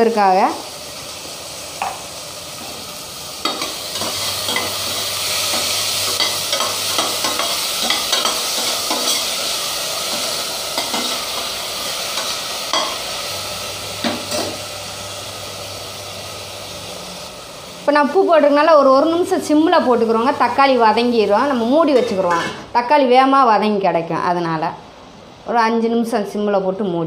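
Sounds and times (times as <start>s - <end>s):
vegetables sizzling in oil: 0.0s - 23.4s.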